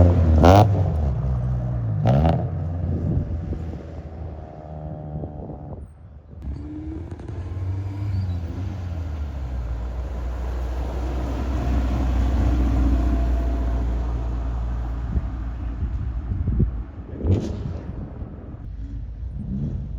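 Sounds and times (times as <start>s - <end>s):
car engine driving away: 0.0s - 5.8s, 6.4s - 19.9s
deep engine rumble: 0.0s - 19.9s.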